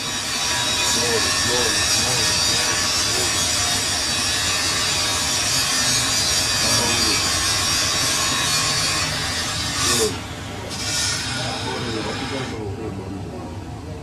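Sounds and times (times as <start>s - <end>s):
machinery hissing: 0.0s - 12.8s.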